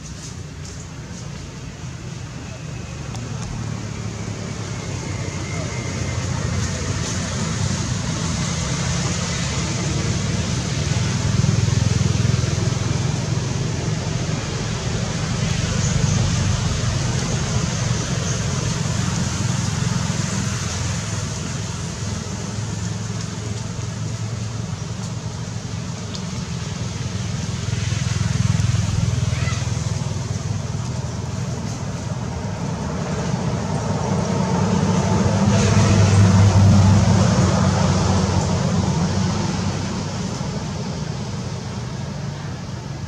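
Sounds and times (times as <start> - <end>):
outdoor rumble and hiss: 0.0 - 43.0.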